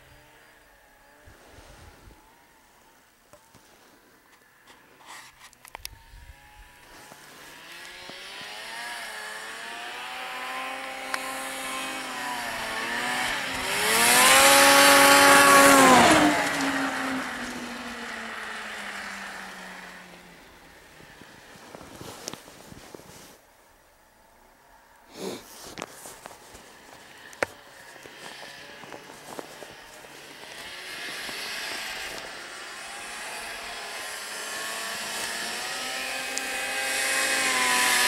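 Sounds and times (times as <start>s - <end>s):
snowmobile engine passing by: 0.0s - 23.4s, 25.1s - 38.0s.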